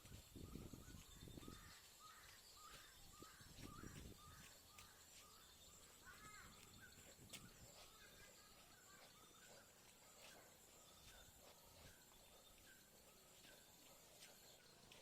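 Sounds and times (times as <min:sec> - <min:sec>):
bird calling faintly: 0:00.2 - 0:15.0.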